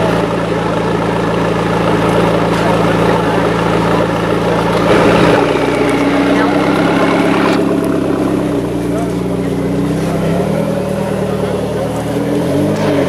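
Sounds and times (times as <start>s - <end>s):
sports car engine idling: 0.0s - 13.0s.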